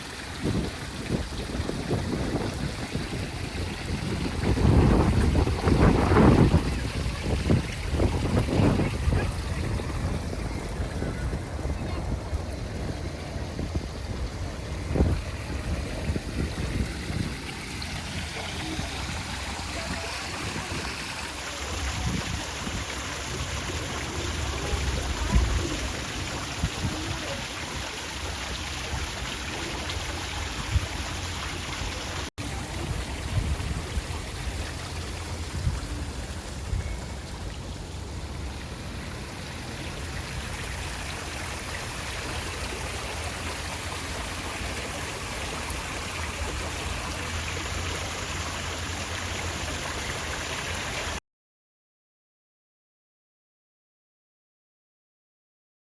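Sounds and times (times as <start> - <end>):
fountain water running: 0.0 - 51.2.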